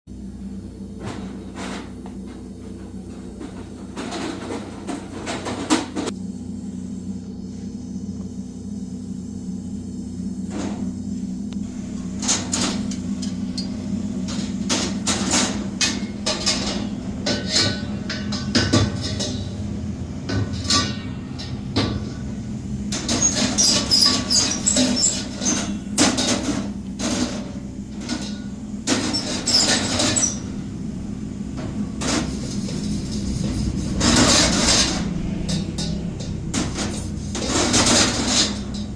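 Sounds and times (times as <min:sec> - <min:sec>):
low machine hum: 0:00.1 - 0:38.9.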